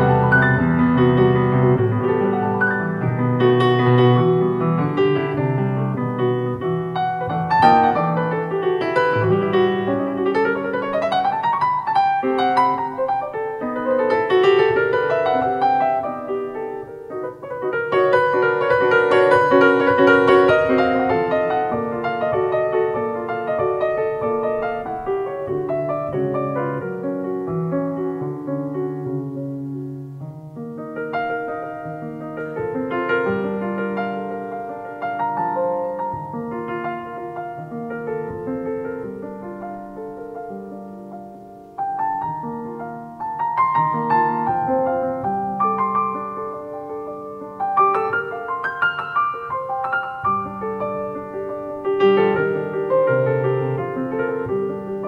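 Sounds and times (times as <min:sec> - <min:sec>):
solo piano melody: 0:00.0 - 0:55.0.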